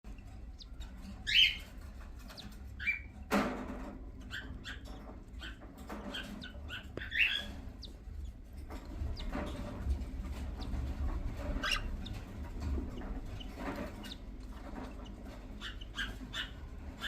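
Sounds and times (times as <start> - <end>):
beaks pecking at food: 0.1 - 17.0
cockatiels chirping: 0.3 - 3.6, 4.2 - 17.0.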